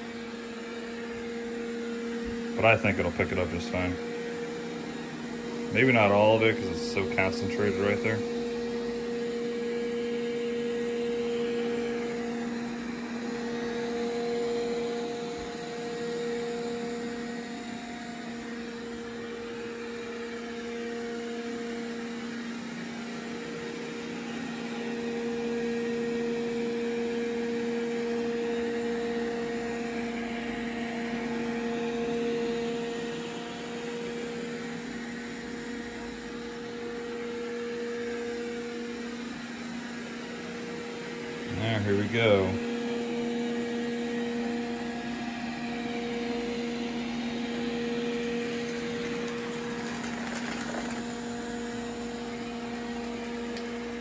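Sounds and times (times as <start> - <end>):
robot vacuum motor hum: 0.0 - 54.0.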